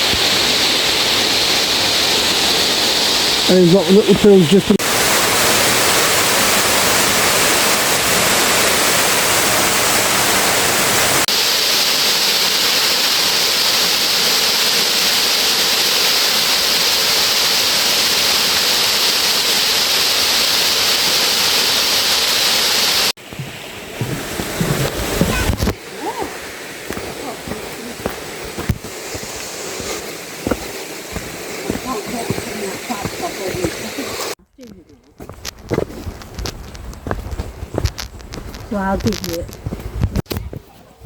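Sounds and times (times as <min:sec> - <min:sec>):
waterfall rushing: 0:00.0 - 0:34.4.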